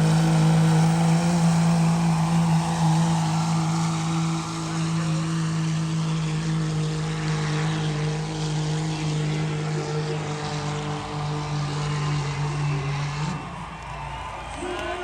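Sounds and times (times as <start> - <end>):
diesel engine at high revs: 0.0 - 15.0.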